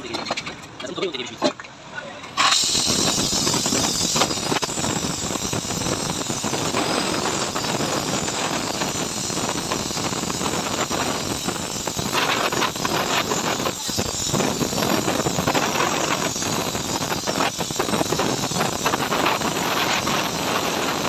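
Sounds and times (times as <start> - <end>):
welding torch flame hissing: 2.4 - 21.0.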